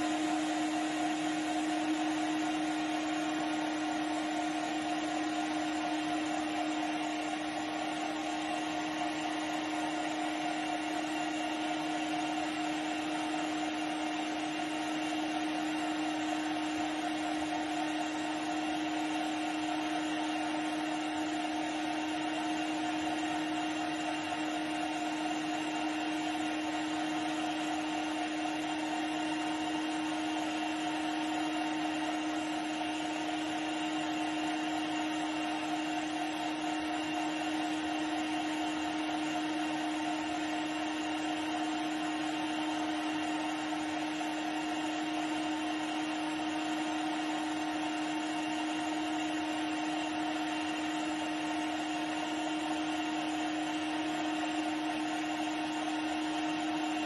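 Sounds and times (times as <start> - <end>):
meat grinder motor humming: 0.0 - 57.0.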